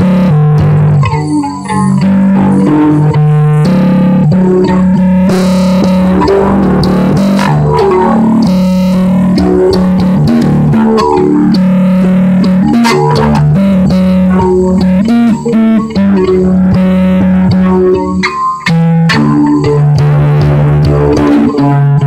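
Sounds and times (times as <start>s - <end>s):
bass guitar playing: 0.0s - 22.0s.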